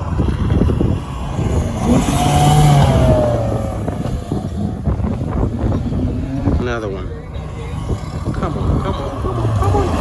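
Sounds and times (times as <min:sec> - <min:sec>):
rally car passing at speed: 0:00.0 - 0:10.0.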